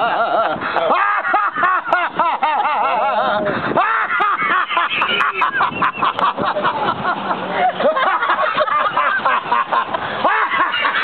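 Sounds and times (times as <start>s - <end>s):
man cackling laugh: 0.0s - 11.0s.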